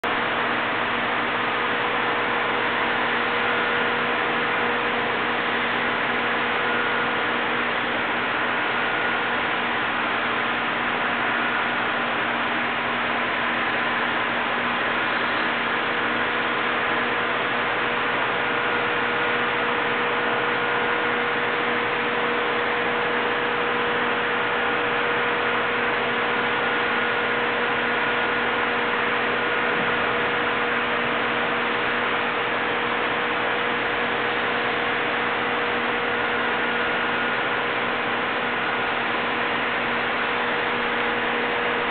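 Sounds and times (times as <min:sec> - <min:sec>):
machine running with rushing hum: 0:00.0 - 0:41.9.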